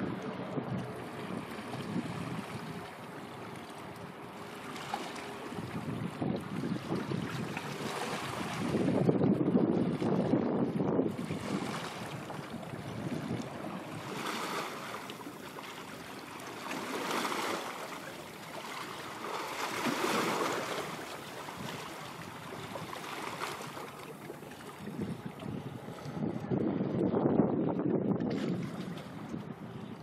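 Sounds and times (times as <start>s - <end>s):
small waves washing in: 0.0s - 9.0s, 11.0s - 26.2s
wind: 0.0s - 30.0s.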